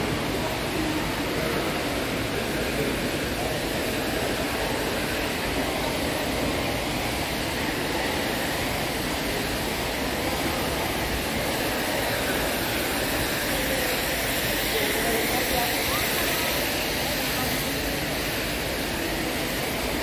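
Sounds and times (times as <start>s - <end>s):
water splashing from fountain: 0.0s - 20.0s.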